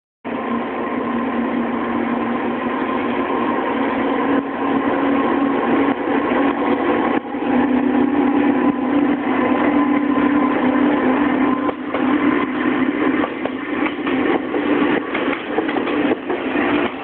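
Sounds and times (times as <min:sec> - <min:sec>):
locomotive hum: 0:00.3 - 0:17.0.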